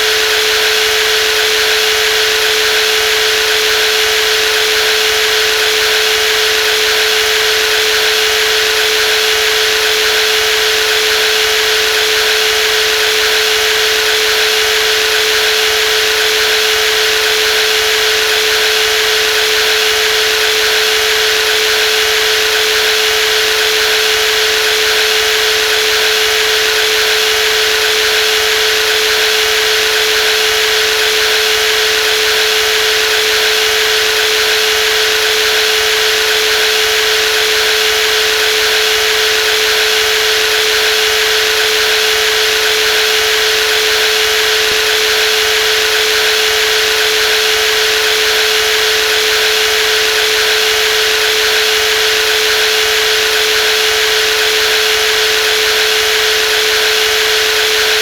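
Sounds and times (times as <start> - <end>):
jigsaw running: 0.0 - 58.0.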